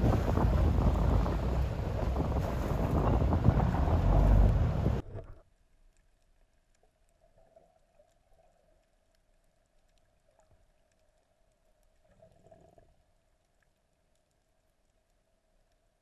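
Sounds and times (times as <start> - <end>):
soft low rumble: 0.0 - 16.0.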